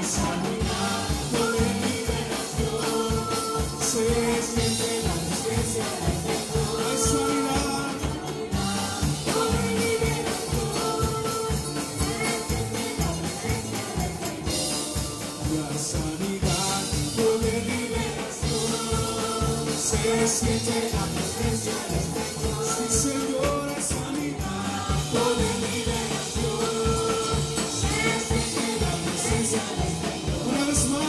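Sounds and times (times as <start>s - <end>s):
drum kit: 0.0s - 31.0s
electric bass: 0.0s - 31.0s
keyboard: 0.0s - 31.0s
people singing: 0.0s - 31.0s.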